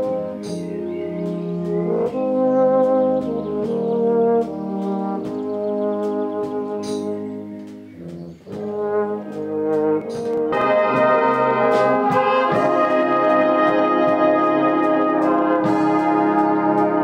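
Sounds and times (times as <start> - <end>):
wind band playing sustained chords: 0.0 - 17.0.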